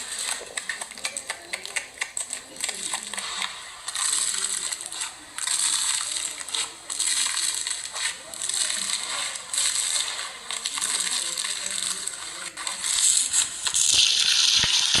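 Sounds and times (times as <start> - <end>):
slime squished by hand: 0.0 - 15.0.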